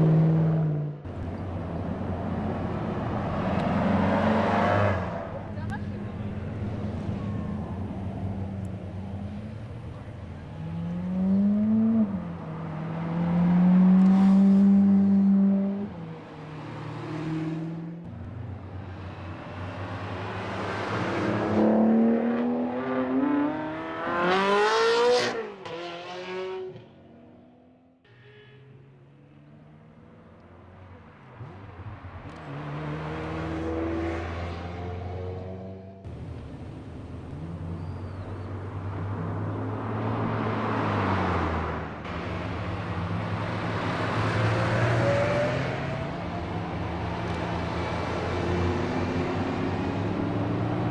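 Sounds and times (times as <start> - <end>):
sports car engines revving past: 0.0 - 18.2, 18.8 - 28.0, 28.9 - 50.9.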